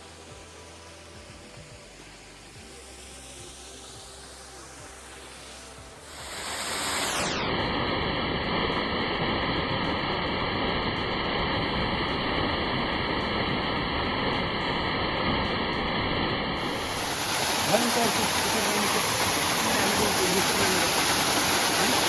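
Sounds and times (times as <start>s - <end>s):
waterfall rushing: 2.0s - 22.0s.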